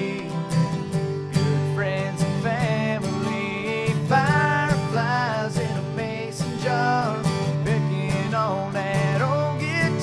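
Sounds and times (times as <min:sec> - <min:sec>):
guitar-backed country song: 0:00.0 - 0:10.0.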